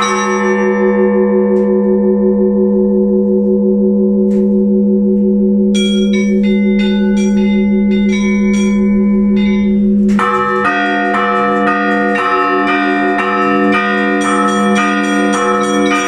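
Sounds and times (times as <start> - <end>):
large bell humming: 0.0 - 16.0
small church bells striking: 0.0 - 16.0.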